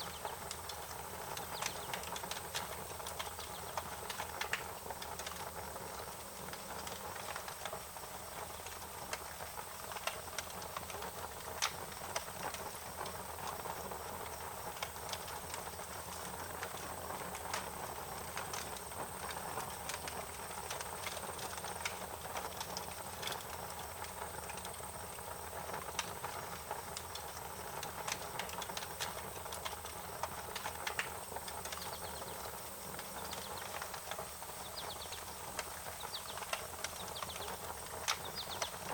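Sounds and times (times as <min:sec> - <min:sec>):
fire crackling: 0:00.0 - 0:38.9.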